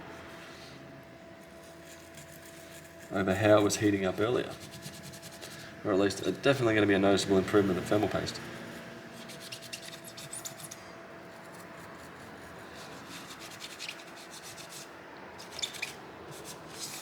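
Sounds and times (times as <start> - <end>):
rubbing and scratching on heatsink: 0.3 - 17.0.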